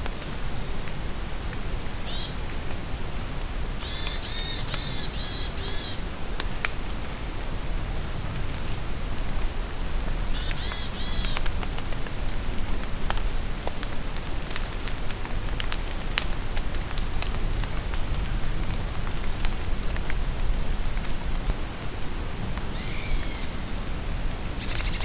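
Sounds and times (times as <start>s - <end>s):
steady rain in a forest: 0.0s - 25.0s.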